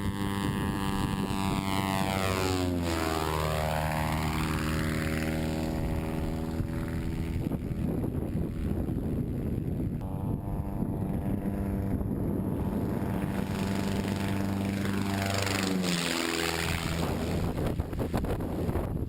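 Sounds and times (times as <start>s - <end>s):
propeller plane flying past: 0.0s - 19.0s
wind on microphone: 0.0s - 19.0s.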